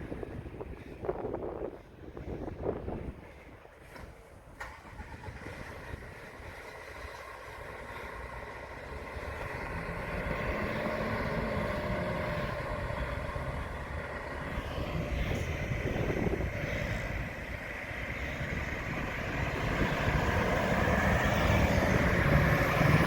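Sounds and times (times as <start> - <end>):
vehicle approaching: 0.0 - 23.0.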